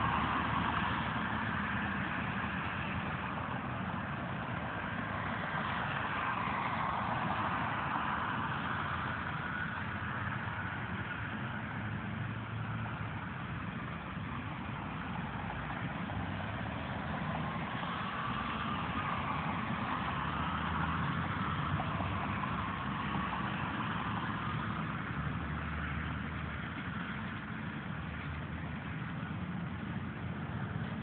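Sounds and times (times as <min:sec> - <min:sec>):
trucks and cars passing: 0:00.0 - 0:31.0.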